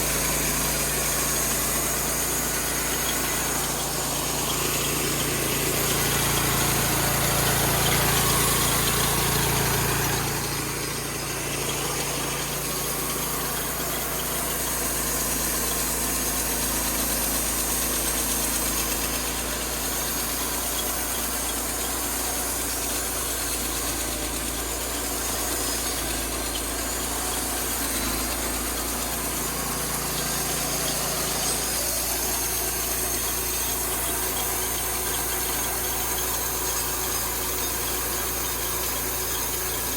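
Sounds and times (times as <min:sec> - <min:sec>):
sawmill engine cutting log: 0:00.0 - 0:39.9.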